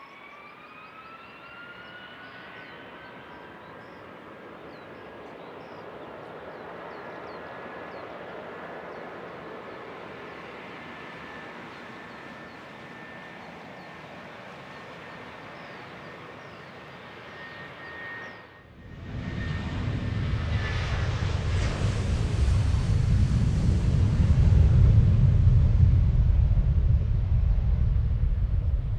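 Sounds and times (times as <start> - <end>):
jet airliner engines rumbling: 0.0 - 28.9.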